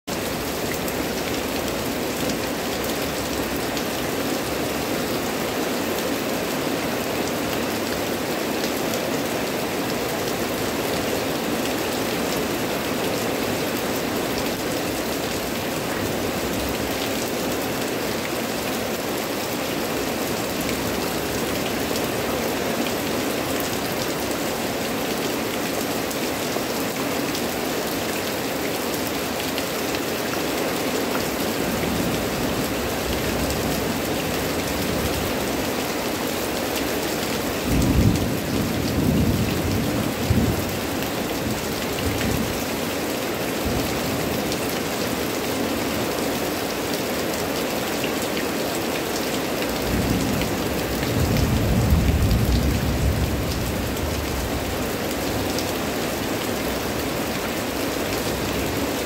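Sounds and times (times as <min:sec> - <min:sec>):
heavy rain on leaves: 0:00.0 - 0:59.0.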